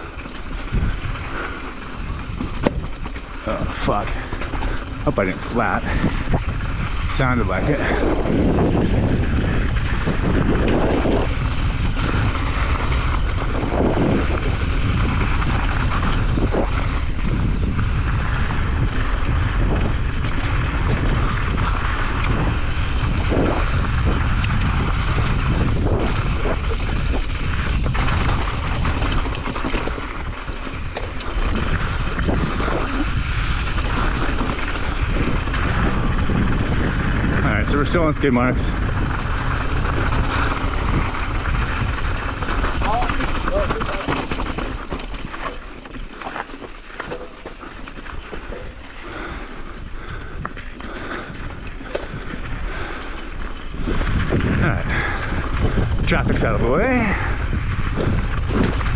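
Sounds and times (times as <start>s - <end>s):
tyres crunching on gravel: 0.0s - 58.9s
wind buffeting microphone: 0.0s - 58.9s
bike knocking on rocks: 1.9s - 7.2s, 8.2s - 37.3s, 38.9s - 48.9s, 50.1s - 55.8s.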